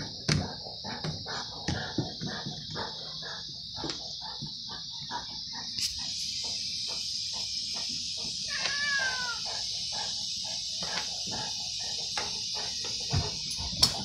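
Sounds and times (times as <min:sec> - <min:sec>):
puppy panting quickly: 0:00.0 - 0:14.0.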